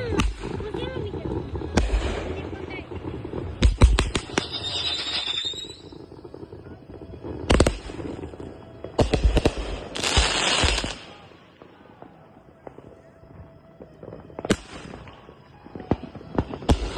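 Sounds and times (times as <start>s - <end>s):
fireworks bangs: 0.0s - 16.9s
fireworks crackling and hissing: 0.0s - 16.9s.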